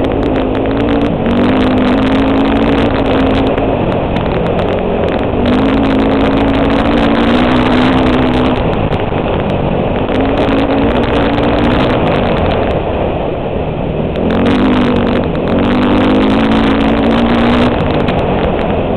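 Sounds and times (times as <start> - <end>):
dirt bike engine running: 0.0 - 18.9
wind rush over microphone: 0.0 - 18.9.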